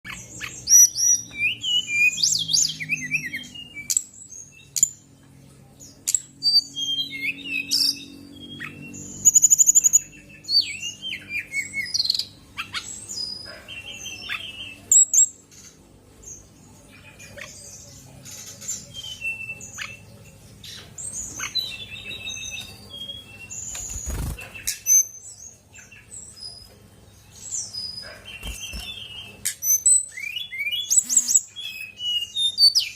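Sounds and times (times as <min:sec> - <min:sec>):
bird singing chirps and trills: 0:00.1 - 0:32.9.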